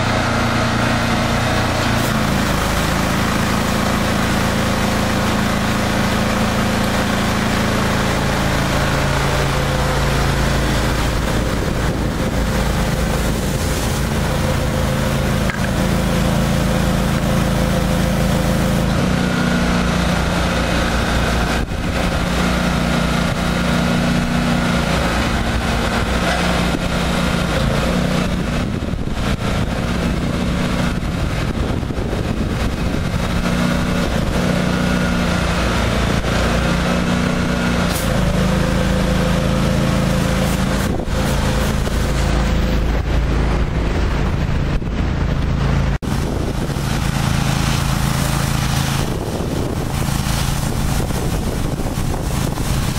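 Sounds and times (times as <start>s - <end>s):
pressure washer engine running: 0.0s - 52.9s.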